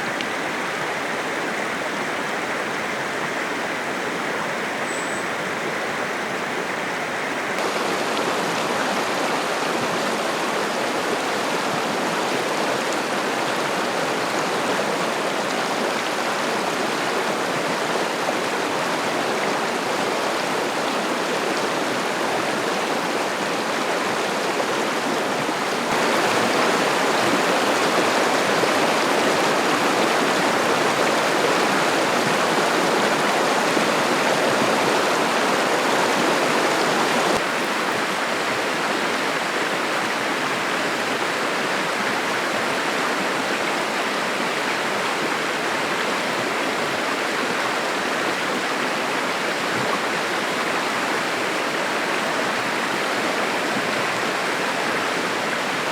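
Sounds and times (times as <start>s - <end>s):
river flowing: 0.0s - 55.9s.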